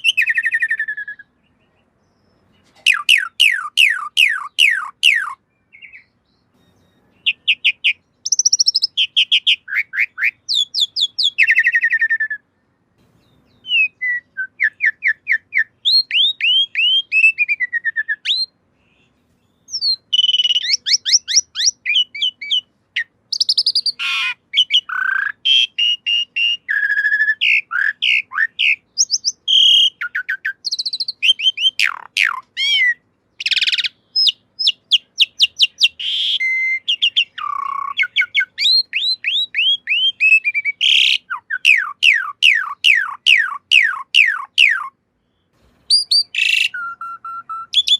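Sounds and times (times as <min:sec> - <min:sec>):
starling singing: 0:00.0 - 0:45.0, 0:45.9 - 0:47.9.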